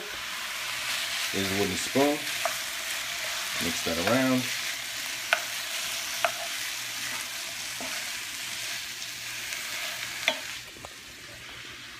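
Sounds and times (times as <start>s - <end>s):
food sizzling in a frying pan: 0.0s - 11.9s.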